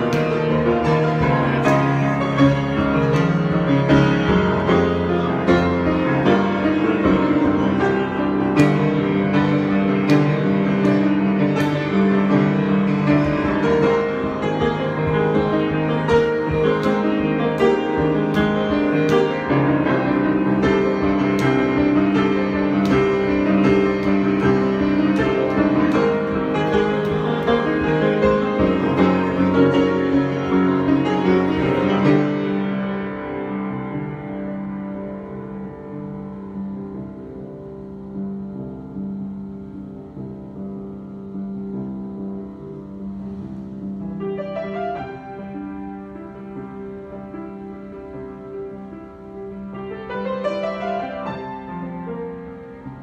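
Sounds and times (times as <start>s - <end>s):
solo piano: 0.0s - 53.0s.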